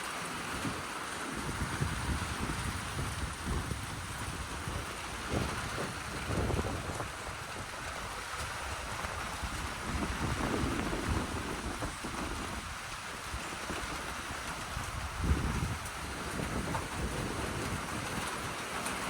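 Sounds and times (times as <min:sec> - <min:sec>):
rain hissing: 0:00.0 - 0:19.0
strong wind: 0:00.0 - 0:19.0
wind gusts hitting microphone: 0:00.5 - 0:18.8.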